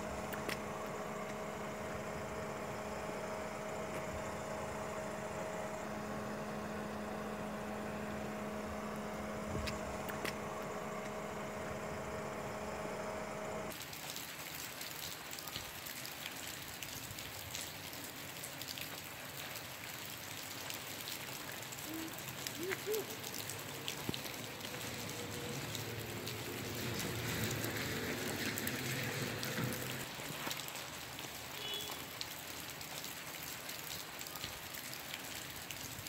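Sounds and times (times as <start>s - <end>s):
raindrops clicking on wet ground: 0.0s - 12.2s, 13.6s - 36.0s
light rain falling: 0.0s - 36.0s.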